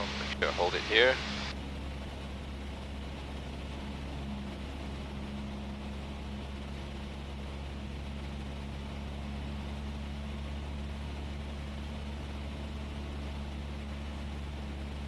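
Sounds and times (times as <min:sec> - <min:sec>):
airplane engine droning in cabin: 0:00.0 - 0:15.0.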